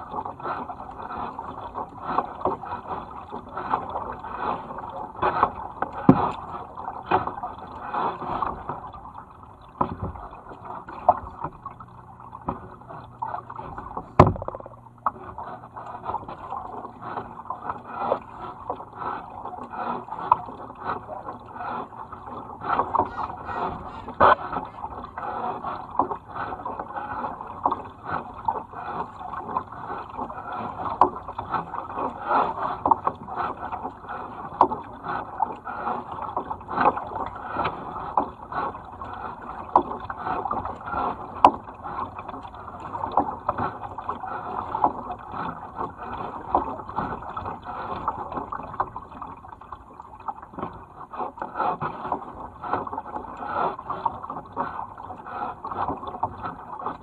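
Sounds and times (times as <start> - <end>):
moving river water: 0.0 - 57.0
paddles splashing in water: 0.0 - 57.0.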